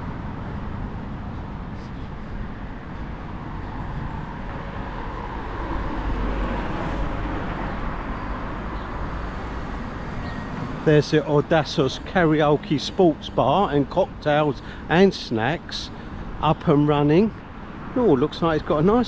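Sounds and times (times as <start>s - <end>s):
passing cars: 0.0s - 19.0s.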